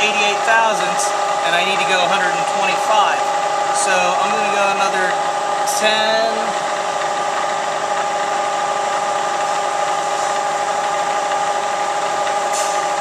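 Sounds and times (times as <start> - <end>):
milling machine whine: 0.0 - 13.0.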